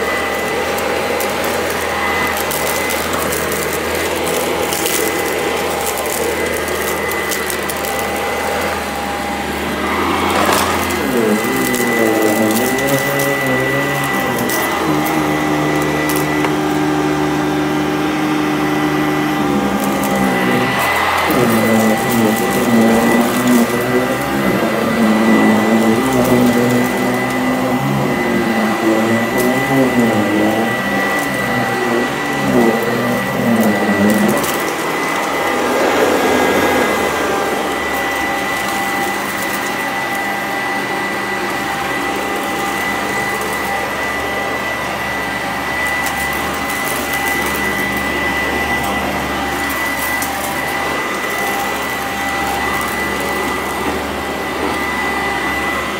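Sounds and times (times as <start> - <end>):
upright vacuum running on carpet: 0.0 - 55.9.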